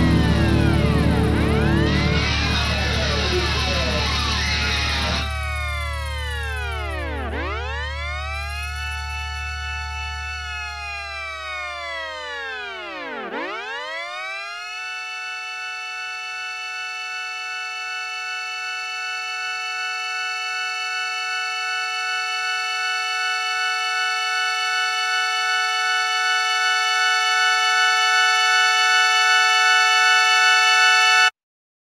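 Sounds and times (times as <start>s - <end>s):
steady siren tone: 0.0s - 31.3s.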